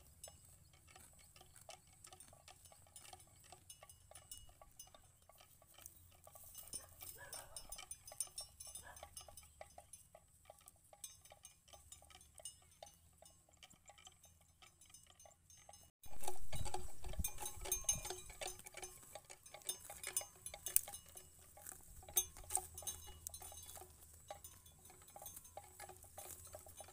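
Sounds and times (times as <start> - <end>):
cattle tearing and chewing grass: 0.0 - 26.9.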